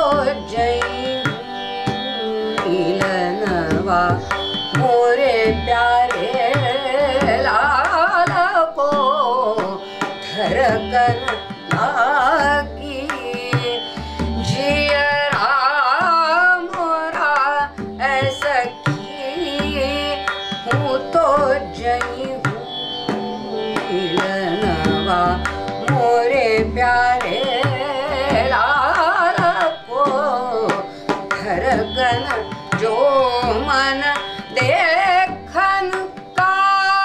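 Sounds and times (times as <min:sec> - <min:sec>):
tabla: 0:00.0 - 0:37.0
woman singing classical vocals: 0:00.0 - 0:37.0.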